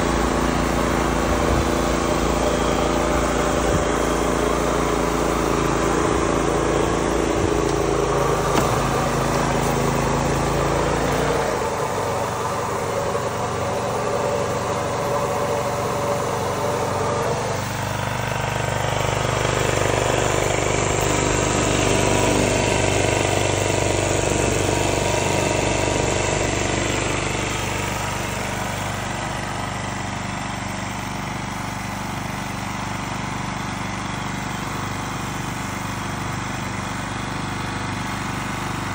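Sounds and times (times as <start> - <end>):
sprayer motor running: 0.0 - 38.9.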